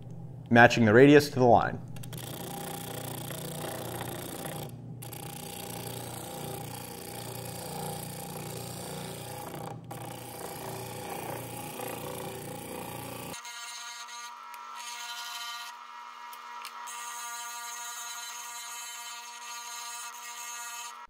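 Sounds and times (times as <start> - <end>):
disc sander grinding wood: 2.1 - 21.0.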